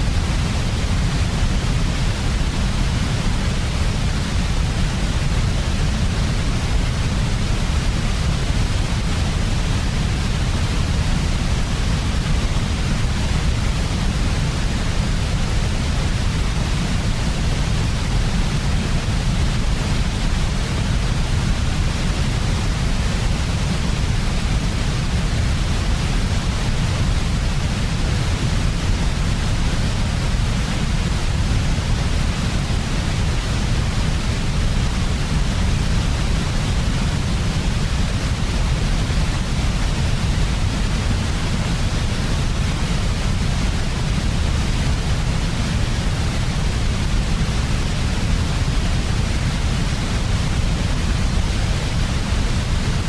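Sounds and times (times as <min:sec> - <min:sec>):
electronic white noise hiss: 0:00.0 - 0:53.0.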